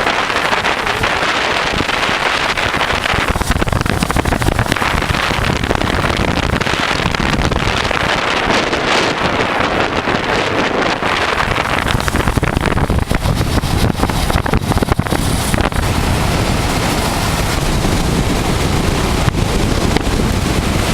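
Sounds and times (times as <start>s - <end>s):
motorcycle engine running: 0.0s - 20.9s
wind buffeting microphone: 0.0s - 20.9s.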